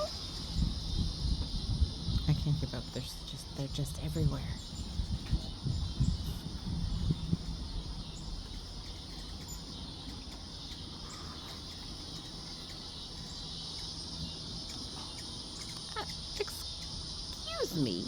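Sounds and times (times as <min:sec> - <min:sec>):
faint bird chirps: 0:00.0 - 0:18.0
high-pitched insect chorus: 0:00.0 - 0:18.0.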